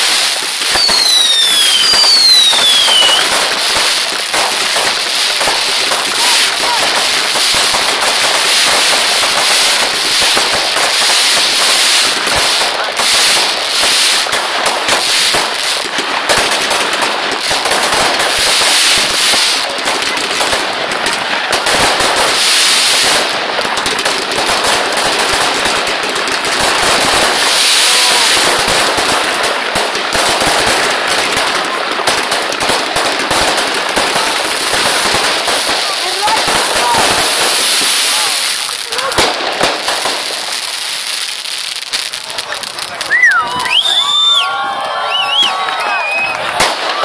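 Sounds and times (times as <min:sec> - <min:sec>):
fireworks shells bursting: 0:00.0 - 0:44.2
fireworks crackling: 0:00.0 - 0:47.0.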